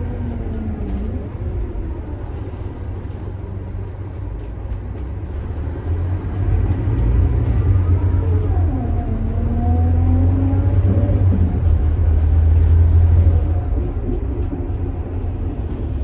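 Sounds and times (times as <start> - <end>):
bus diesel engine rumbling: 0.0 - 16.0.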